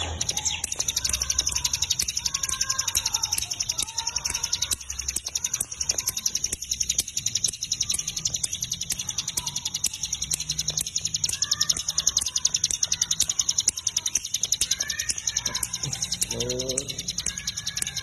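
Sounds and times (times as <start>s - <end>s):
bird chirps: 0.0s - 18.0s
songbird ticking calls: 0.0s - 18.0s.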